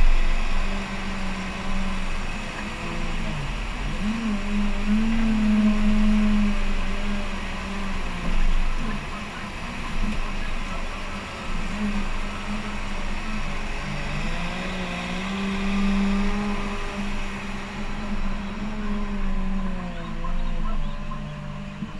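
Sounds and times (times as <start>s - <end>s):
loader diesel engine revving: 0.0s - 21.9s.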